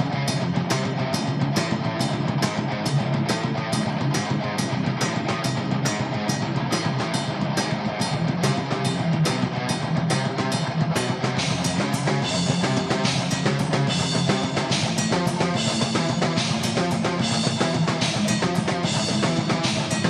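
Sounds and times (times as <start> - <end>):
rock guitar: 0.0 - 20.0
steady drum beat: 0.0 - 20.0.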